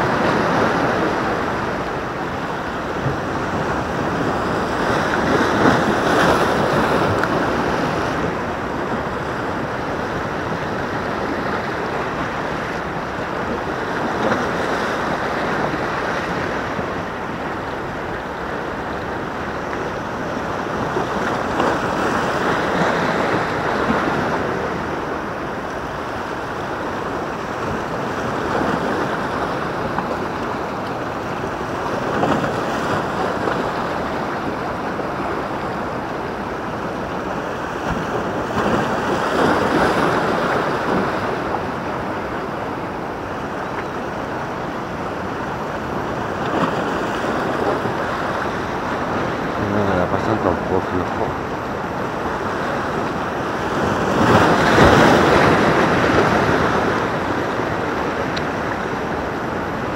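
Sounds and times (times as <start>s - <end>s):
waves breaking on rocks: 0.0s - 59.9s.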